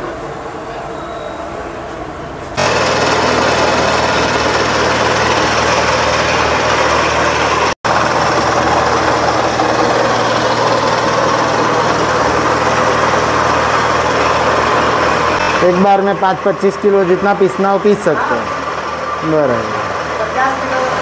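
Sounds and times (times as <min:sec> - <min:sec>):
electric spice grinder running: 0:02.6 - 0:21.0.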